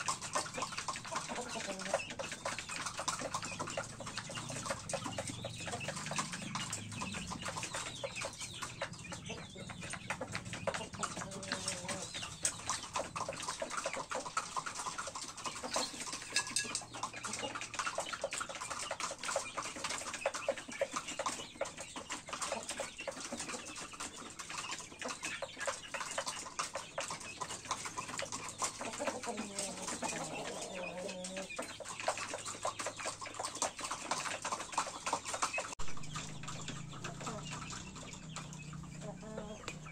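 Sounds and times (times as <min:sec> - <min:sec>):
chickens clucking: 0:00.0 - 0:39.9
small clicks and scratching: 0:00.0 - 0:39.9.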